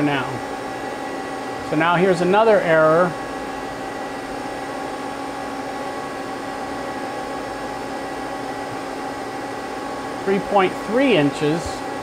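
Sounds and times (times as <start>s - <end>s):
idle lathe whirring and humming: 0.0s - 12.0s.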